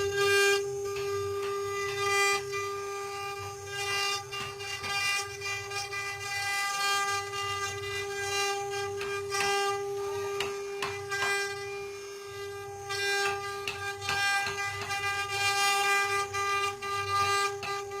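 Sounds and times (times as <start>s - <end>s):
router spindle whine: 0.0s - 18.0s.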